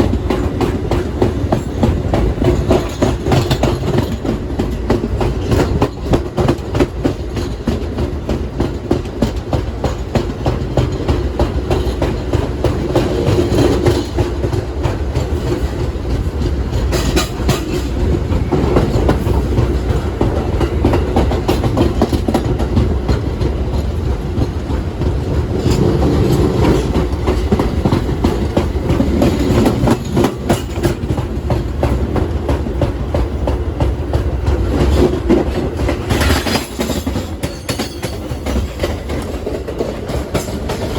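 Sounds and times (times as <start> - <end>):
subway train wheels rumbling: 0.0 - 40.9
wheels clattering over rail joints: 0.0 - 40.9.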